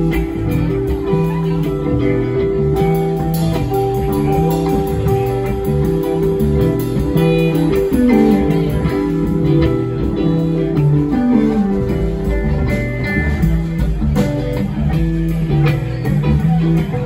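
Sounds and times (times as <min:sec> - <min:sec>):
live rock band instrumental: 0:00.0 - 0:17.0.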